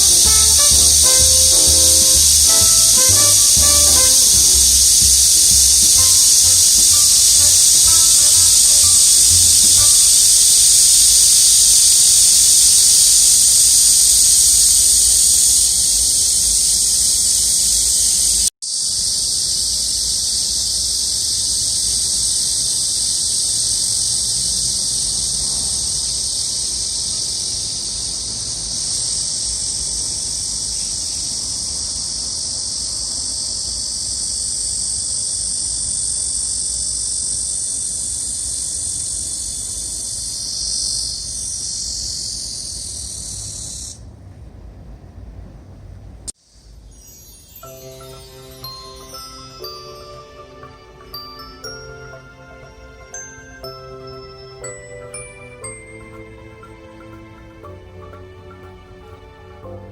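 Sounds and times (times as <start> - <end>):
chorus of insects calling: 0.0 - 44.0, 46.4 - 59.9.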